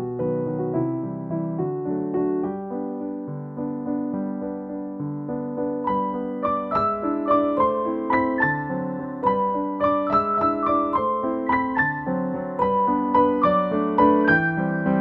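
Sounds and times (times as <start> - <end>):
keyboard melody over chords: 0.0 - 15.0.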